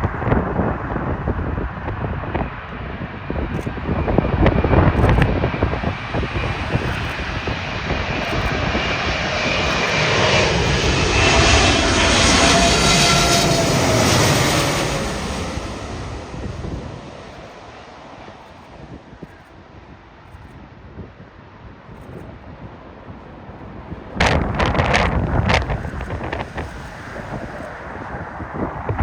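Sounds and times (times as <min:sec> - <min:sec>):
jet airliner flying past: 0:00.0 - 0:29.0
wind buffeting microphone: 0:00.0 - 0:29.0.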